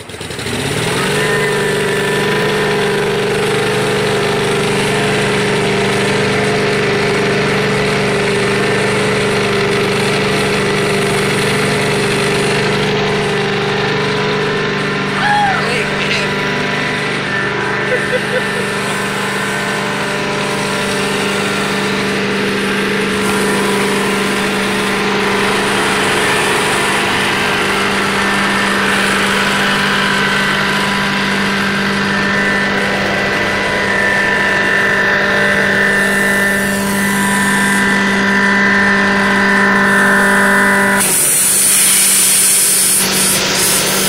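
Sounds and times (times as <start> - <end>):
carpet cleaner engine running: 0.0 - 44.0.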